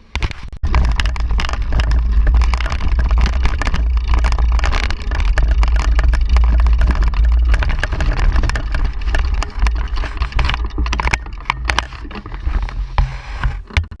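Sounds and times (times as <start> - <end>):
bike clicks and rattles: 0.0 - 14.0.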